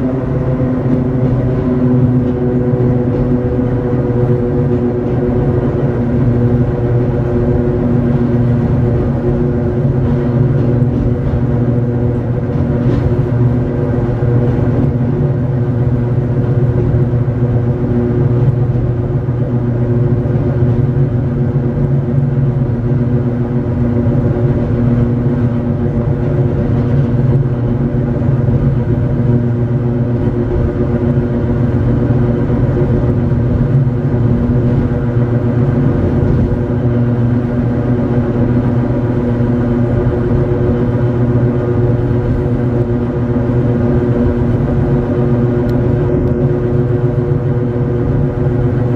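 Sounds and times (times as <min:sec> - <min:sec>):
railcar motor and gear hum: 0:00.0 - 0:48.9
wheels rumbling on rails: 0:00.0 - 0:48.9.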